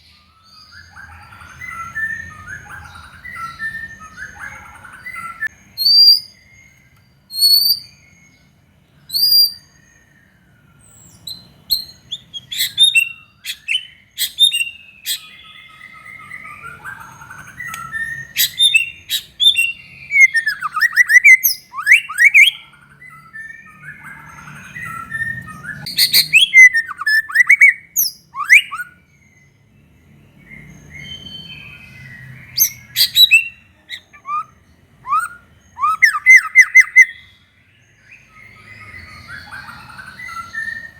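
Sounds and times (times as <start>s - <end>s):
bird singing whistles and trills: 0.0s - 40.9s.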